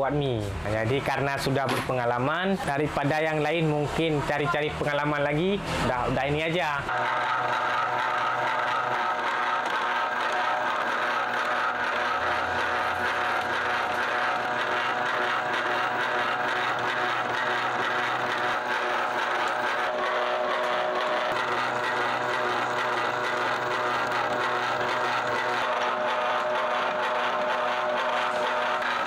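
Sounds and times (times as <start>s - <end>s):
noodle-cutting machine running: 5.7s - 29.0s.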